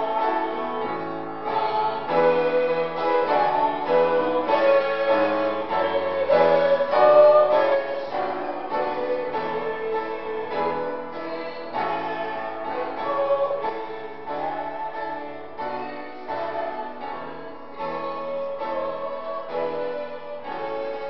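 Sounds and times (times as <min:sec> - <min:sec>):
hymn played on keyboard: 0:00.0 - 0:21.0.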